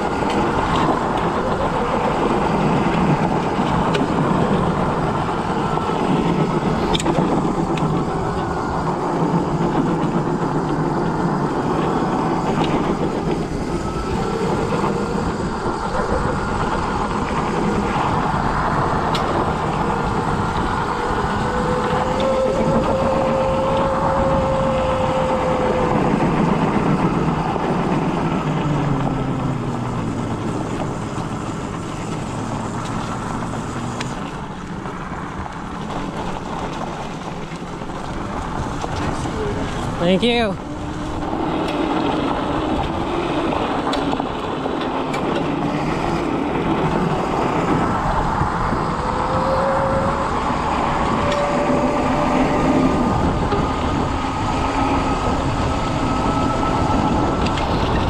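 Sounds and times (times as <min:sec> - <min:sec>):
faint whine: 0:00.0 - 0:58.0
road noise: 0:00.0 - 0:58.0
scooter motor rumble: 0:00.0 - 0:58.0.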